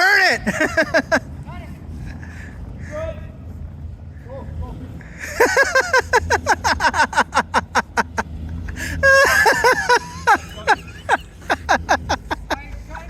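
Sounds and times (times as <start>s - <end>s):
engine running low: 0.0s - 13.0s
tyres squealing on snow: 0.0s - 13.0s.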